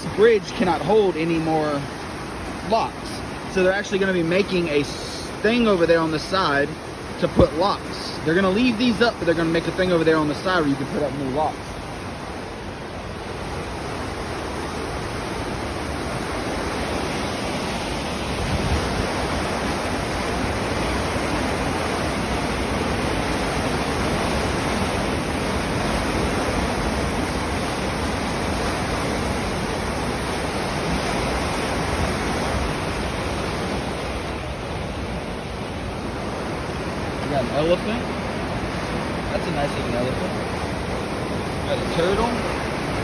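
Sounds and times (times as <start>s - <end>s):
rushing falling water: 0.0s - 43.0s.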